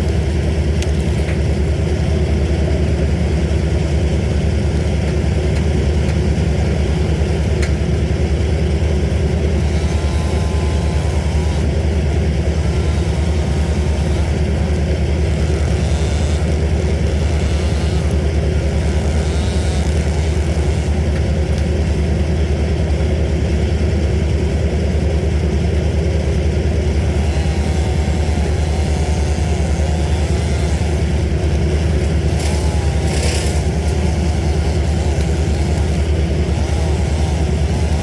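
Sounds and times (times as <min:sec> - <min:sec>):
large engine droning: 0:00.0 - 0:38.0.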